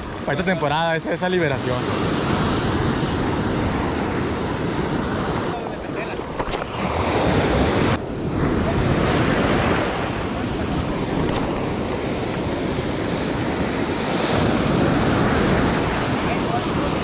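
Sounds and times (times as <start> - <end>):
surf washing and breaking: 0.0 - 17.0
wind buffeting microphone: 0.0 - 17.0.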